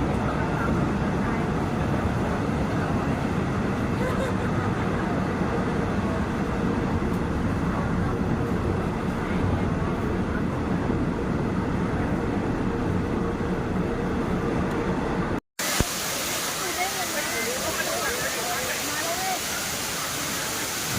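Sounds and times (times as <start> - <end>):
passenger train running: 0.0 - 20.9.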